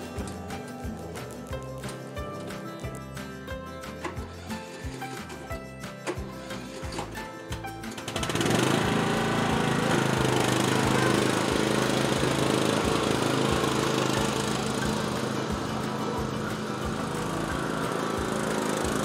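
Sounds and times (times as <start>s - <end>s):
lawn tractor engine running: 0.0s - 19.0s.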